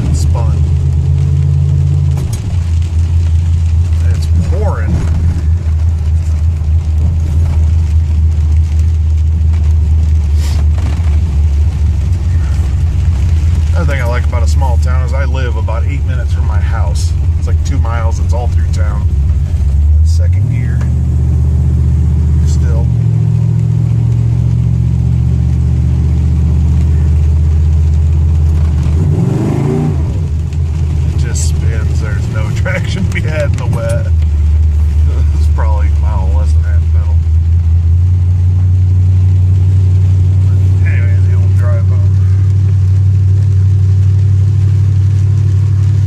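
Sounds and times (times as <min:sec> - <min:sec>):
truck engine droning: 0:00.0 - 0:46.0.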